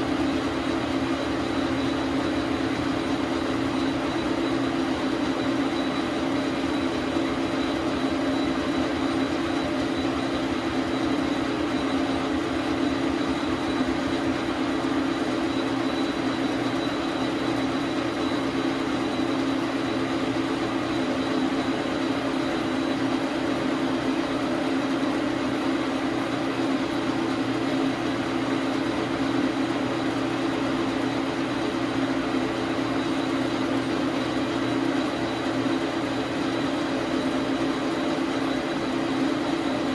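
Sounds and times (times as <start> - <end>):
lathe humming with high whine: 0.0 - 39.9.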